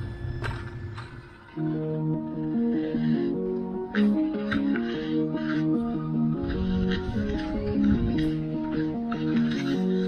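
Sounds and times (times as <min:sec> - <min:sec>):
background music with light beat: 0:00.0 - 0:10.0.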